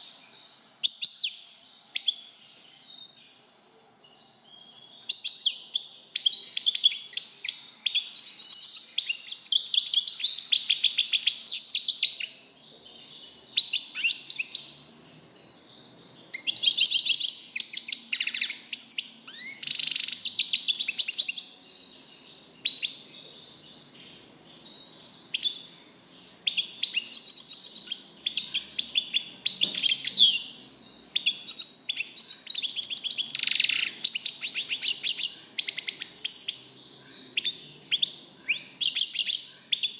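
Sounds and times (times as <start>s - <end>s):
finch singing high twittering: 4.5s - 39.9s.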